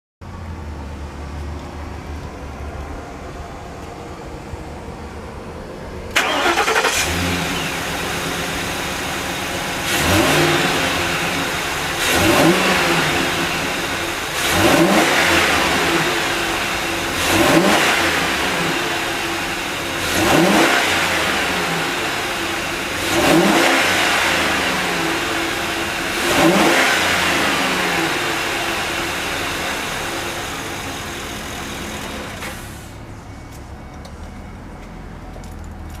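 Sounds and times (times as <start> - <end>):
van engine revving: 0.5 - 33.5.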